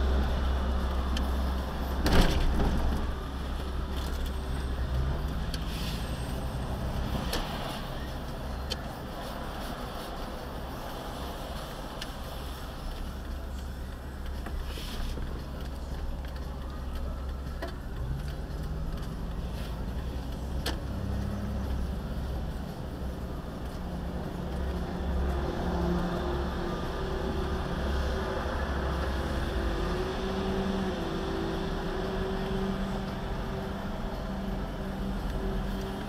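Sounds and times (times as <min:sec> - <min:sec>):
road noise and engine rumble: 0:00.0 - 0:36.0.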